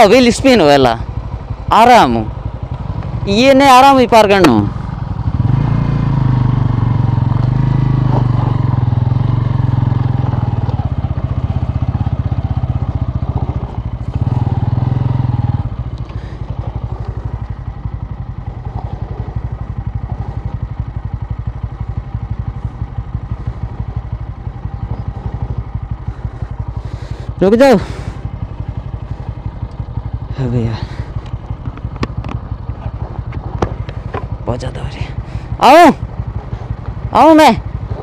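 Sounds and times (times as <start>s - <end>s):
motorcycle engine: 0.0s - 38.0s.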